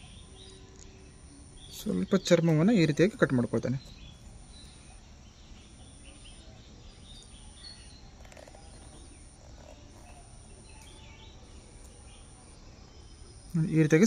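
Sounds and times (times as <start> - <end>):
faint chirps: 0.0 - 14.0
steady low outdoor noise: 0.0 - 14.0.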